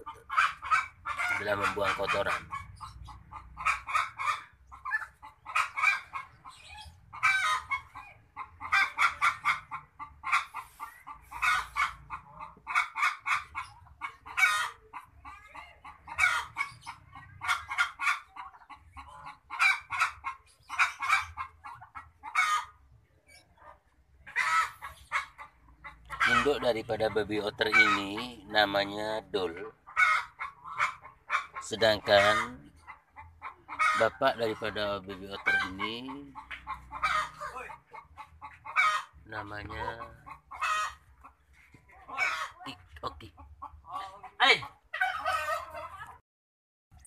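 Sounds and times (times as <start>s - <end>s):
otter pups squeaking: 0.0s - 42.7s.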